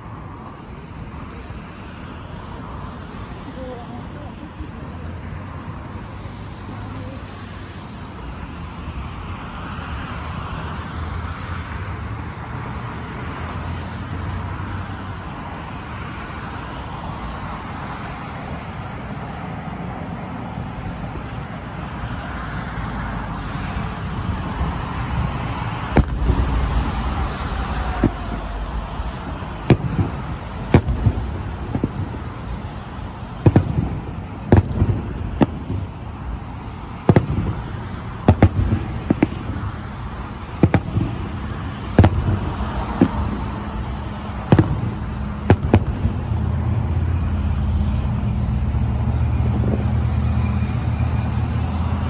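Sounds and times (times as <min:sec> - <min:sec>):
fireworks low rumble: 0:00.0 - 0:52.0
fireworks sharp bangs: 0:00.4 - 0:52.0.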